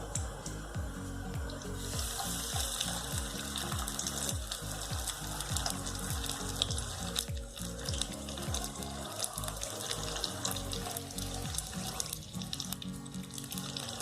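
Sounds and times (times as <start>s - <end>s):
background music: 0.0s - 14.0s
chicken sizzling in hot oil: 1.8s - 14.0s.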